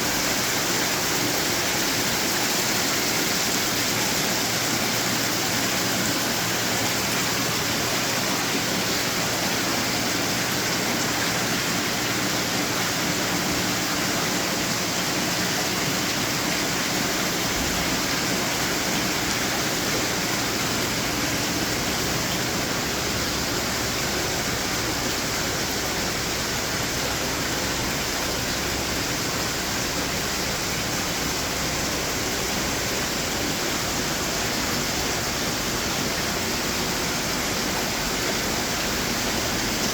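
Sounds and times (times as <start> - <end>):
garden fountain water splashing: 0.0 - 39.9.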